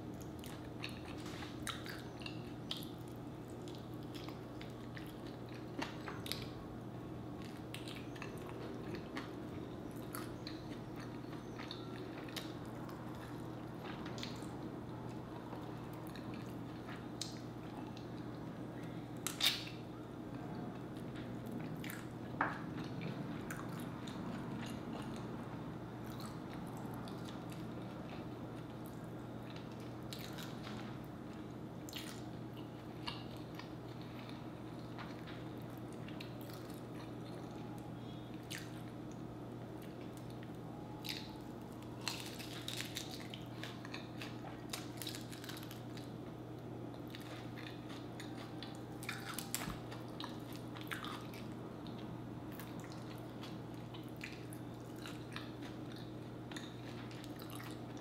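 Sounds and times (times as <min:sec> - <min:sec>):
steady low hum: 0:00.0 - 0:58.0
person chewing chicken wings: 0:00.2 - 0:06.6, 0:07.4 - 0:19.8, 0:20.6 - 0:46.3, 0:46.9 - 0:58.0.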